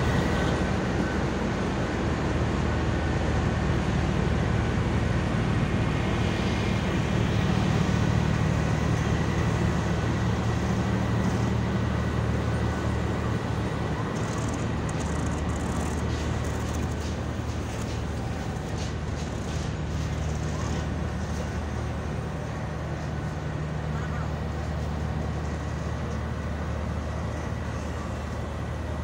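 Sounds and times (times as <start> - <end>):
diesel generator hum: 0.0 - 29.0
train coaches rumbling past: 0.0 - 29.0.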